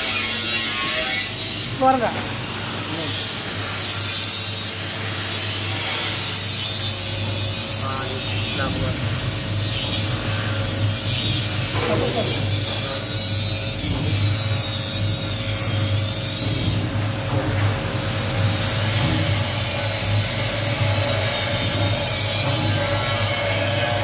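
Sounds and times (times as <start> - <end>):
electric motors humming: 0.0 - 24.0.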